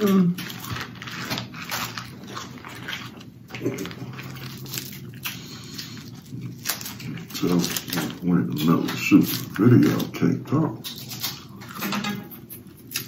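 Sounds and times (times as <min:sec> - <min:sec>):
crab shell cracking and chewing: 0:00.0 - 0:13.0.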